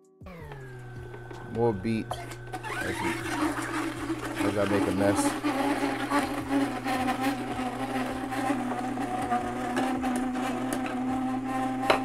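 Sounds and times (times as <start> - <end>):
juicer motor hum: 0.2 - 12.0.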